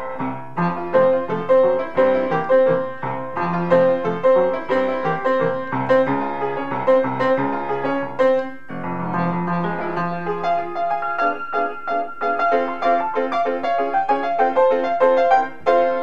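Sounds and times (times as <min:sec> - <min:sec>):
upright piano playing: 0:00.0 - 0:16.0.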